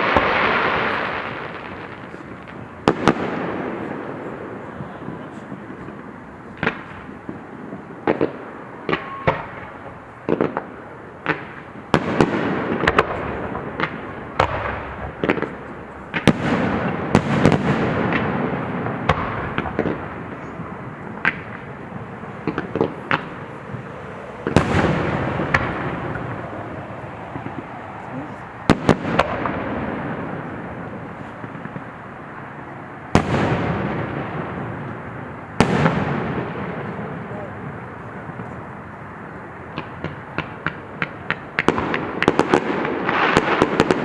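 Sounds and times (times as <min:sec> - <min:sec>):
fireworks exploding: 0:00.0 - 0:44.0.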